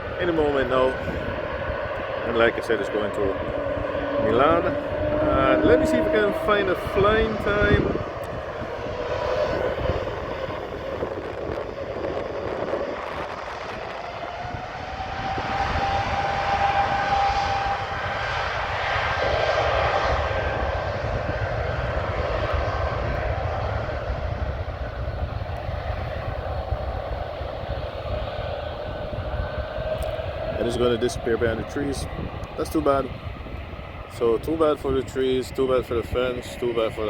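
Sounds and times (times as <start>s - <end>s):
jet airliner taking off: 0.0s - 37.0s.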